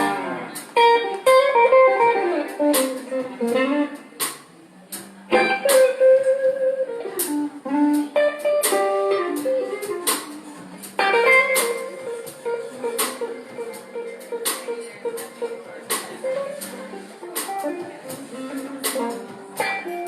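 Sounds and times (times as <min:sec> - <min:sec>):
gliding guitar lead: 0:00.0 - 0:04.2, 0:05.0 - 0:20.0
drum strikes: 0:00.0 - 0:06.6, 0:07.2 - 0:20.0
live blues band: 0:00.0 - 0:20.0.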